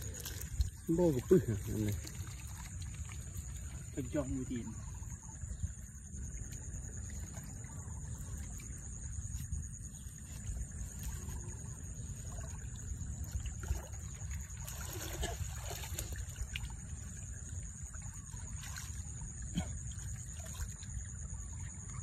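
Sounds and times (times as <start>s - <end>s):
muddy water sloshing: 0.0s - 22.0s
water splashes: 0.0s - 22.0s.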